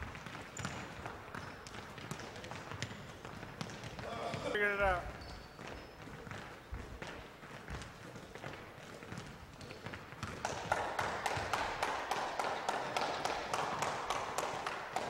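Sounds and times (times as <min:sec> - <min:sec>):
basketballs bouncing on gym floor: 0:00.0 - 0:15.0.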